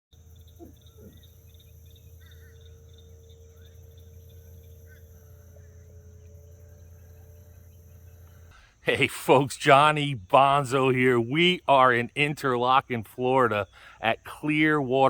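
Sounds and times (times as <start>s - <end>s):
low hum: 0.2s - 15.0s
pulsing insect trill: 0.2s - 15.0s
thin steady tone: 0.2s - 15.0s.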